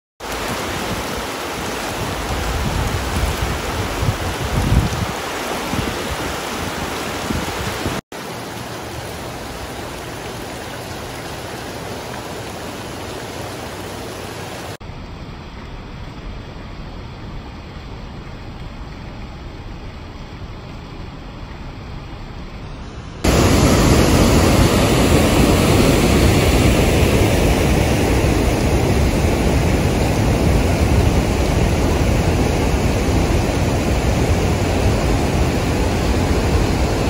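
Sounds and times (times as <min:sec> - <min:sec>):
floodwater rushing: 0:00.2 - 0:37.0.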